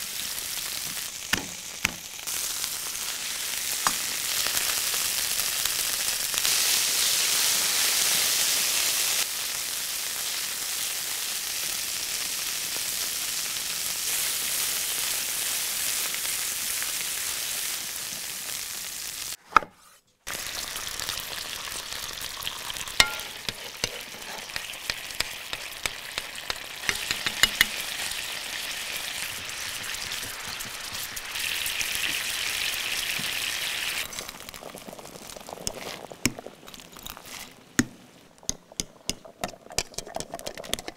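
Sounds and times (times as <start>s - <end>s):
food sizzling in a pan: 0.0s - 19.4s, 20.3s - 38.5s.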